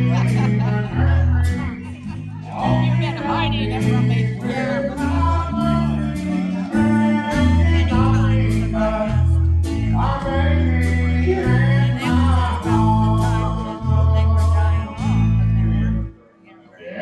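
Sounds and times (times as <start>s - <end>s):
bass line: 0.0s - 16.1s
man singing: 0.0s - 16.1s
guitar: 0.0s - 17.0s.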